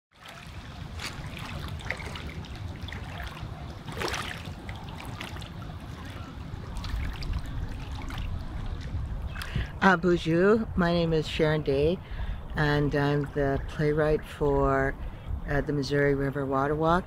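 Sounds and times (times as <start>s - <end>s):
water swish: 0.1s - 15.0s
water trickling and lapping: 0.1s - 15.5s
steady low rumble: 0.2s - 17.0s.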